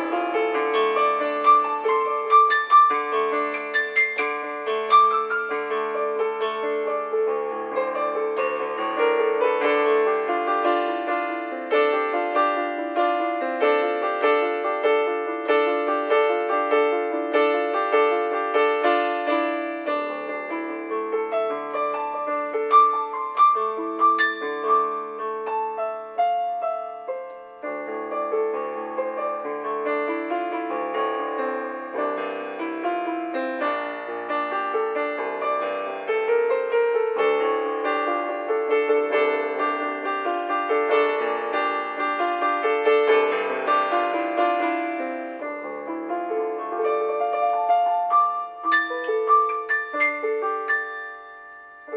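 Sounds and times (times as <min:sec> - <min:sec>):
solo piano music: 0:00.0 - 0:51.9.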